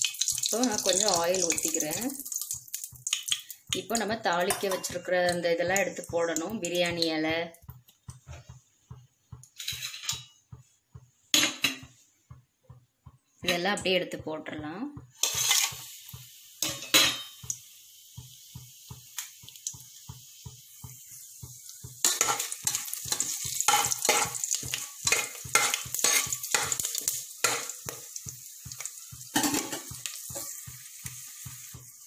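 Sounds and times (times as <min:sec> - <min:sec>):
spices sizzling in hot oil: 0:00.0 - 0:11.6, 0:14.6 - 0:32.0.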